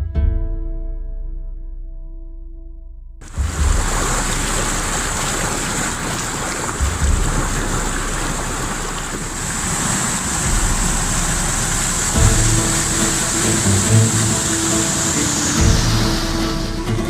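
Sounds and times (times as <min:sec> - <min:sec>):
river water rushing: 0:03.2 - 0:17.0
wind buffeting microphone: 0:03.2 - 0:17.0.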